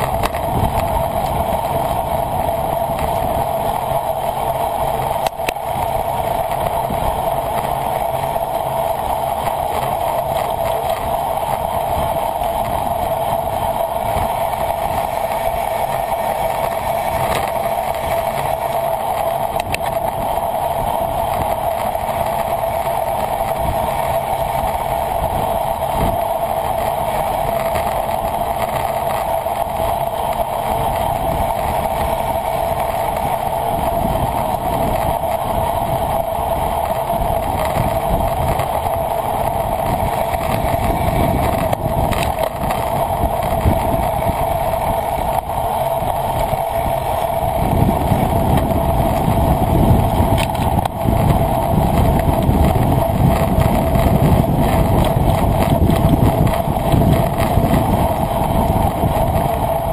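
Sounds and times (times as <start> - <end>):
wind rushing over camera: 0.0 - 59.9.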